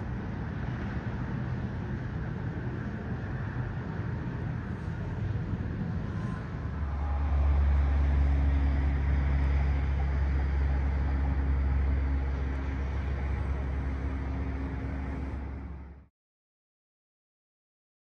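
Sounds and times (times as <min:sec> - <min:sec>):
distant traffic: 0:00.0 - 0:16.1
faint hum: 0:00.0 - 0:16.1
wind: 0:00.0 - 0:16.1.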